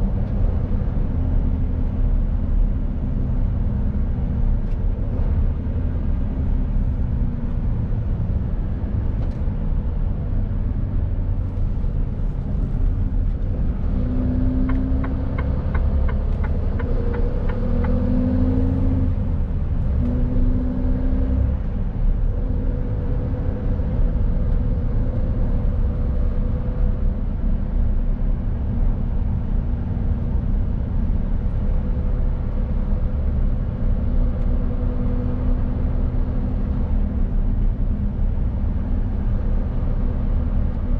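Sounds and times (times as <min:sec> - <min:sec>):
road rumble: 0:00.0 - 0:40.9
truck diesel engine drone: 0:00.0 - 0:40.9.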